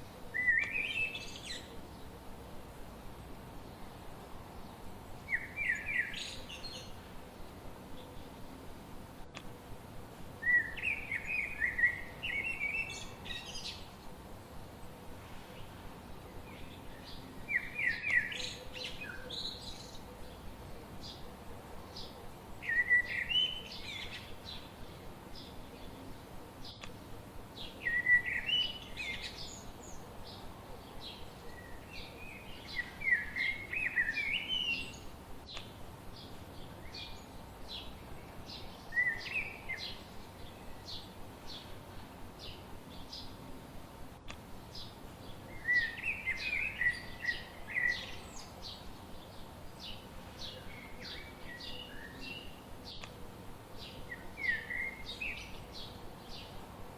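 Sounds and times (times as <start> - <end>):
songbird warbled song: 0.0 - 56.9.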